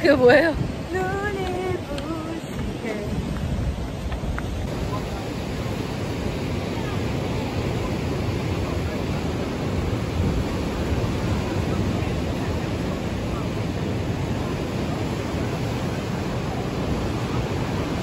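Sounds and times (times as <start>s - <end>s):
ocean surf breaking on rocks: 0.0s - 18.0s
wind on microphone: 0.0s - 18.0s.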